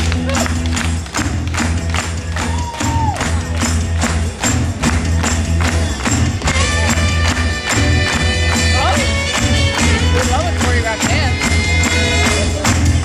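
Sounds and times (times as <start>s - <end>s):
soul music over loudspeakers: 0.0s - 13.0s.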